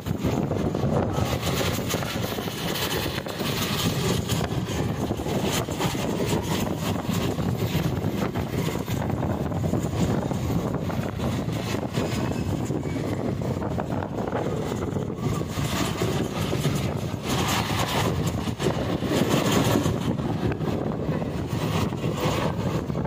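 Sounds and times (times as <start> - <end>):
passenger train rumbling: 0.0 - 23.0
wheels clattering on rails: 0.0 - 23.0.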